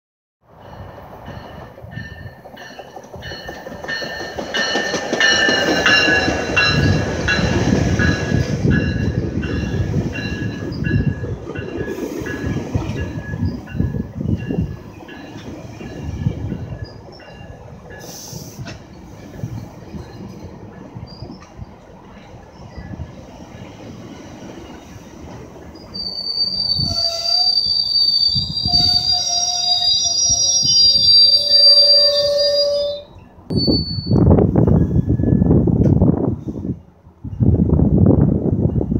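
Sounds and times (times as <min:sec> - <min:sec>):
train wheels rumbling on rail: 0:00.4 - 0:38.9.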